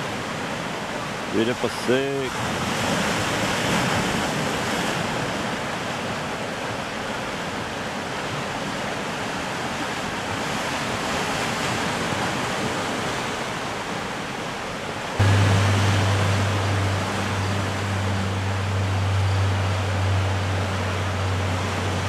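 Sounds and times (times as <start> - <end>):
surf on rocky shoreline: 0.0 - 22.0.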